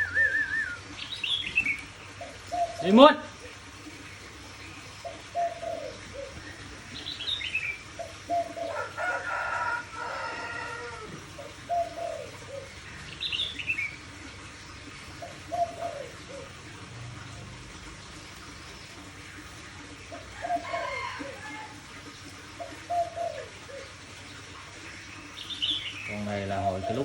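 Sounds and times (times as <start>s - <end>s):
dove cooing: 0.0s - 25.3s, 26.2s - 27.0s.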